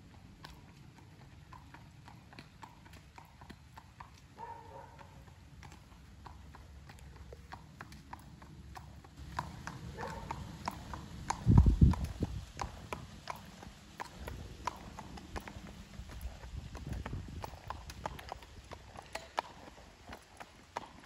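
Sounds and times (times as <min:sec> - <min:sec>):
horse hoofbeats on pavement: 0:00.0 - 0:21.0.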